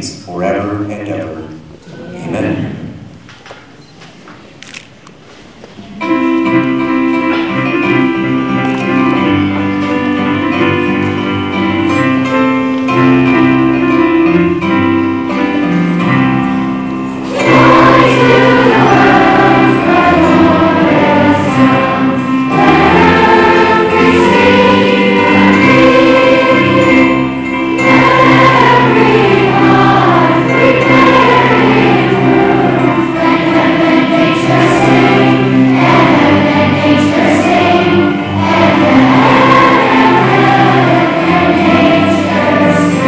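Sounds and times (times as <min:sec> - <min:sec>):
keyboard chords: 0:05.8 - 0:43.0
children's choir singing: 0:05.9 - 0:43.0.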